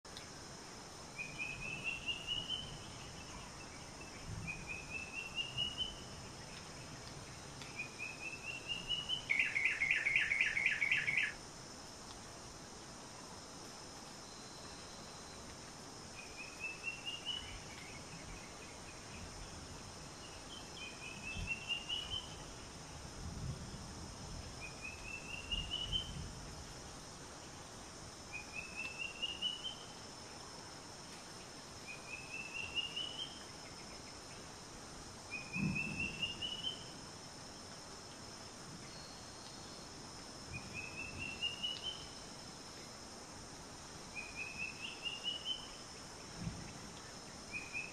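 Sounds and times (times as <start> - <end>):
background hiss: 0.0 - 47.9.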